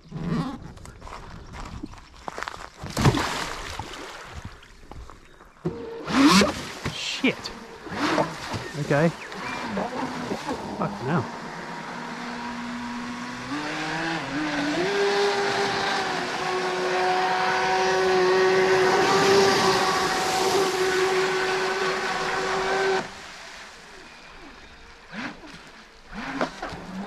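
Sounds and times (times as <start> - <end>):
motor whine of boat: 4.5 - 27.0.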